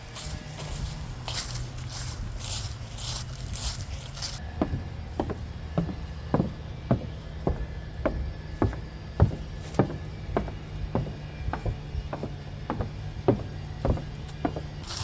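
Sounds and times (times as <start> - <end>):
crunching footsteps: 0.0 - 15.0
footsteps on wooden boardwalk: 0.0 - 15.0.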